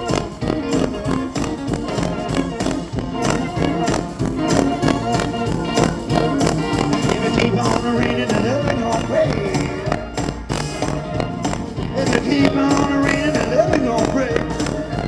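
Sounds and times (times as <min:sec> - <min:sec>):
blues band playing: 0:00.0 - 0:15.0
steady drum beat: 0:00.0 - 0:15.0.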